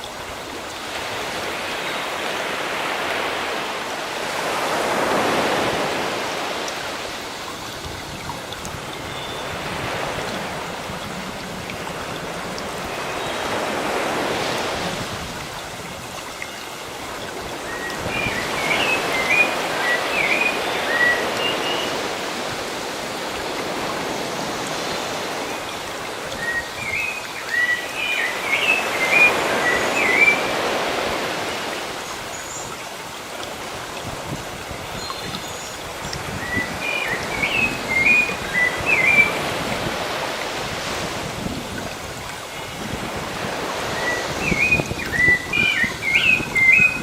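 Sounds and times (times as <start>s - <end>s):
sea waves washing in: 0.0s - 47.0s.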